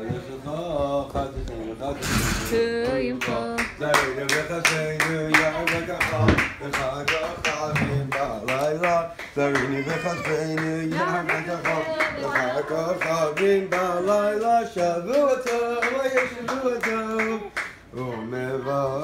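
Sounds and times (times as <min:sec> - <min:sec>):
group singing: 0:00.0 - 0:19.0.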